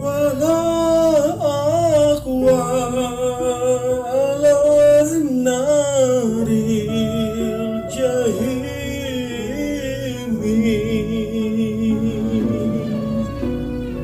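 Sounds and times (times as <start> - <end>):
man singing devotional song: 0.0 - 13.5.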